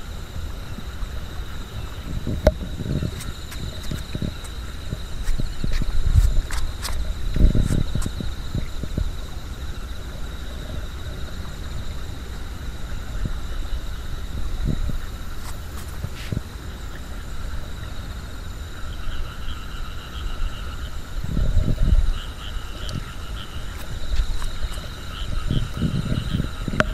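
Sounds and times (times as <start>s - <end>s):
low rumbles on microphone: 0.0s - 17.0s, 21.0s - 26.9s
night insects trilling: 0.0s - 26.9s
pulsing insect chirp: 0.0s - 26.9s.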